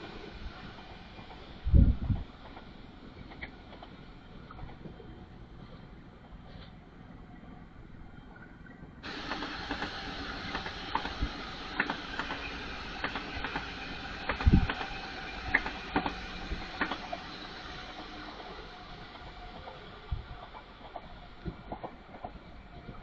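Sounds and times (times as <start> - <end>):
train rolling on tracks: 0.0 - 23.0.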